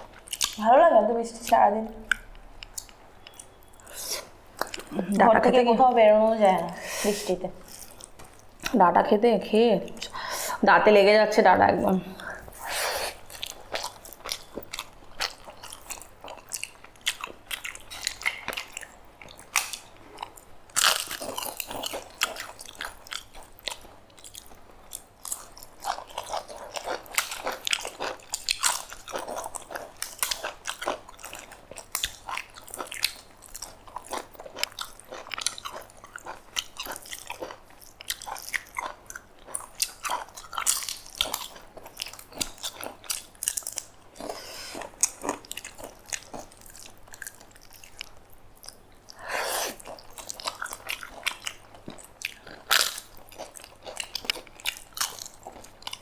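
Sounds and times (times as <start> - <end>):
person eating crunchy food: 0.0 - 0.6, 2.0 - 5.1, 7.1 - 8.8, 12.3 - 56.0.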